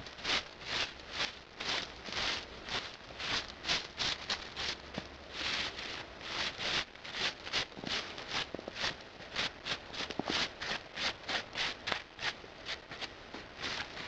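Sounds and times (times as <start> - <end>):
footsteps crunching through snow: 0.0 - 14.0.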